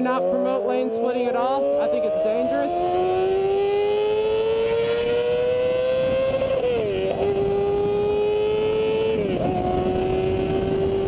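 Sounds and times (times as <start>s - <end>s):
motorcycle engine revving high: 0.0s - 11.0s
wind and road noise: 0.0s - 11.0s.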